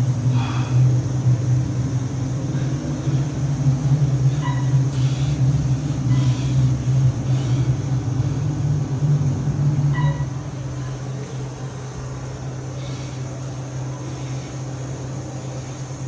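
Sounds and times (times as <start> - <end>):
elevator humming: 0.0 - 16.0.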